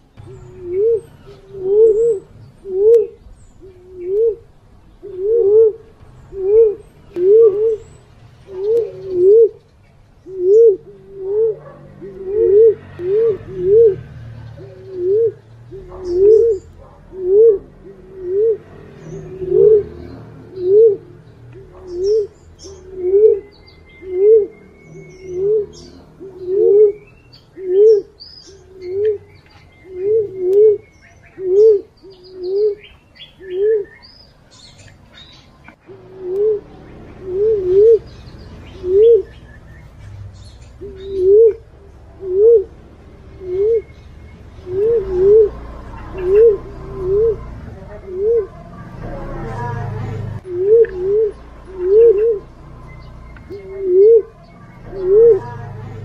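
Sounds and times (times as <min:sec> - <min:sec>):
dove cooing: 0:00.0 - 0:34.1, 0:34.8 - 0:56.0
faint bird twittering: 0:00.0 - 0:56.0.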